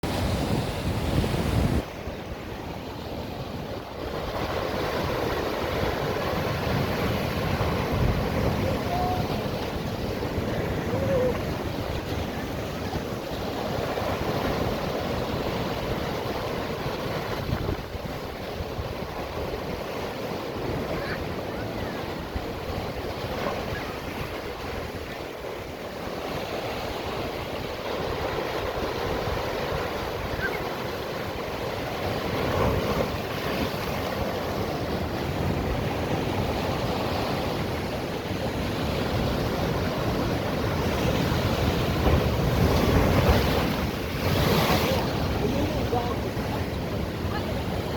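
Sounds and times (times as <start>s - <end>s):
wind buffeting microphone: 0.0s - 2.7s, 3.4s - 47.9s
ocean surf washing: 0.0s - 47.9s.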